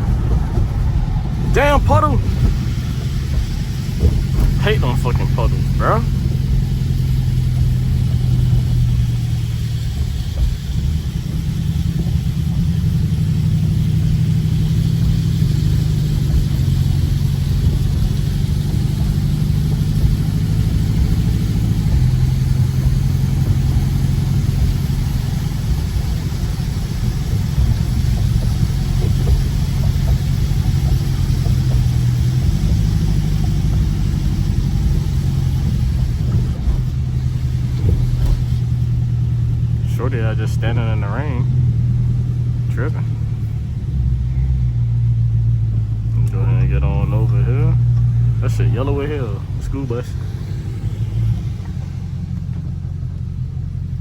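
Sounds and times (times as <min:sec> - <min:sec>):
car engine at low revs: 0:00.0 - 0:54.0
tyre noise on wet road: 0:00.0 - 0:54.0.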